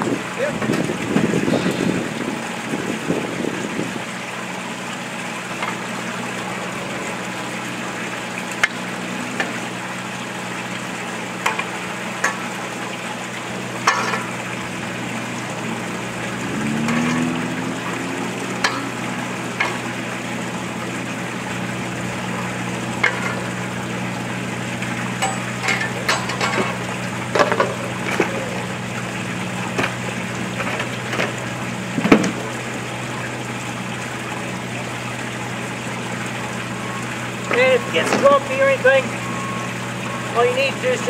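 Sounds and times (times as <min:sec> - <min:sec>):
low engine hum: 0:00.0 - 0:41.0.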